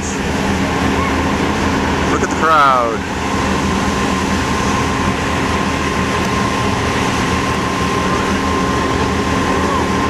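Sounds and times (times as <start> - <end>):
diesel truck engines idling: 0.0 - 10.0.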